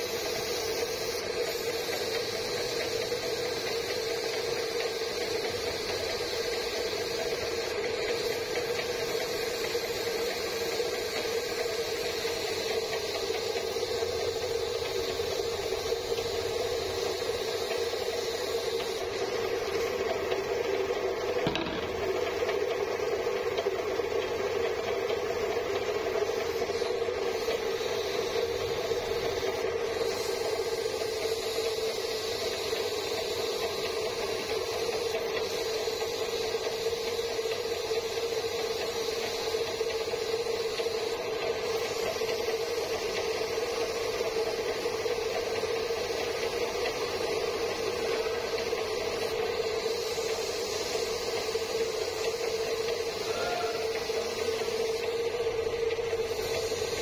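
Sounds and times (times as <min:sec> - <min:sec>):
workshop machine humming: 0:00.0 - 0:57.0.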